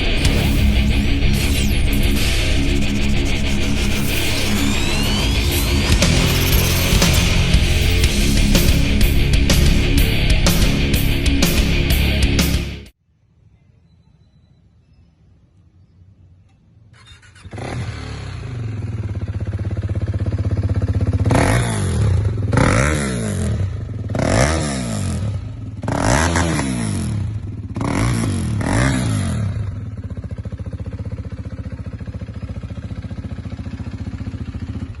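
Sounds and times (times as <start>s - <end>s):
motorcycle engine idling and revving: 0.0s - 13.0s, 16.2s - 35.0s.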